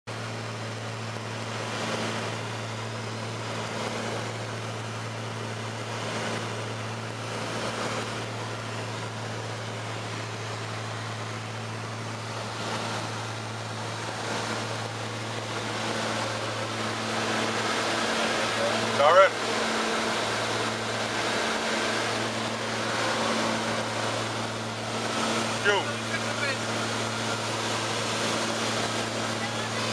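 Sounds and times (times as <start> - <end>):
aircraft engine droning: 0.1 - 29.9
airflow rush: 5.7 - 29.9.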